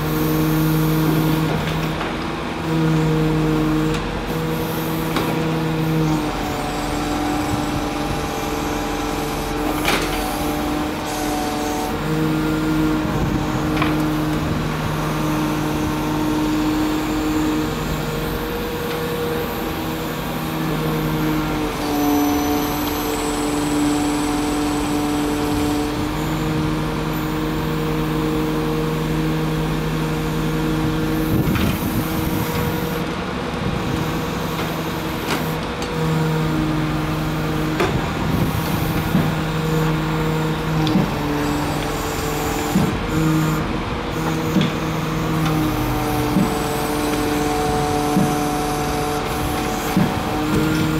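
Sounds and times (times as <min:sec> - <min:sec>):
excavator engine and hydraulics hum: 0:00.0 - 0:50.9.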